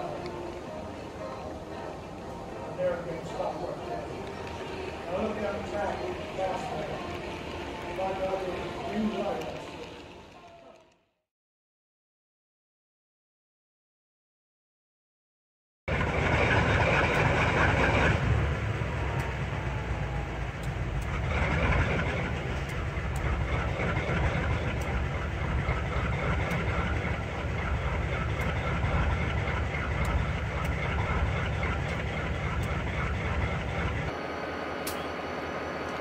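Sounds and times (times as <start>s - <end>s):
model train diesel idling sound: 0.0s - 10.4s, 15.9s - 36.0s.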